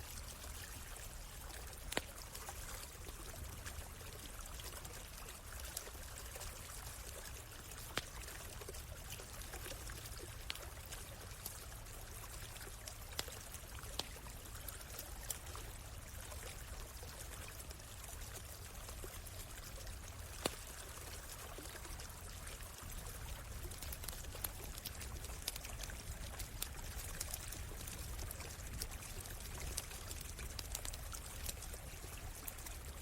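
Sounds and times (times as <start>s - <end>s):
campfire crackling: 0.0s - 33.0s
stream water flowing: 0.0s - 33.0s.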